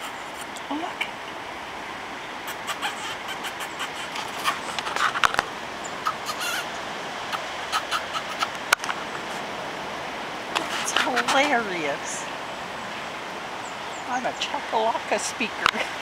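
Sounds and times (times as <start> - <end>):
birds clucking calls: 0.0 - 1.4, 2.0 - 16.0.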